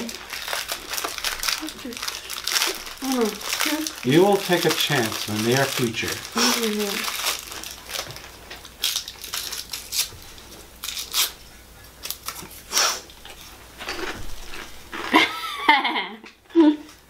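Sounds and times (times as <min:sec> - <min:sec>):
fortune cookie crunching: 0:00.0 - 0:15.3.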